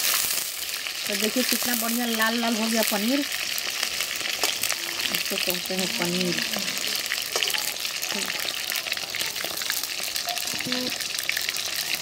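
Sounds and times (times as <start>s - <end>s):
food sizzling in hot oil: 0.0s - 12.0s
steel spatula turning food: 1.3s - 12.0s.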